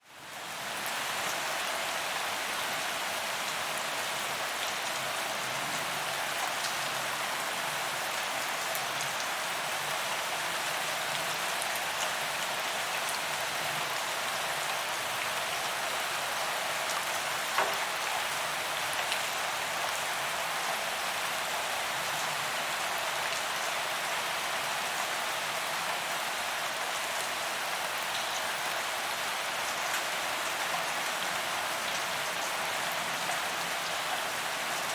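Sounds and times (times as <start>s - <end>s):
heavy rain on pavement: 0.0s - 34.9s.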